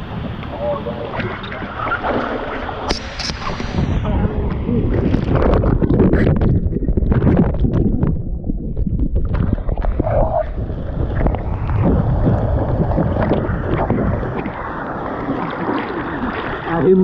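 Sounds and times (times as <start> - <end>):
rushing water: 0.0 - 17.0
wind buffeting microphone: 0.0 - 17.0.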